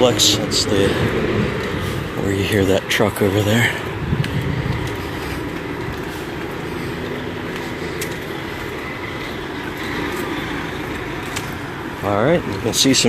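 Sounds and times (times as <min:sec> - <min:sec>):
distant truck rumbling: 0:00.0 - 0:13.0.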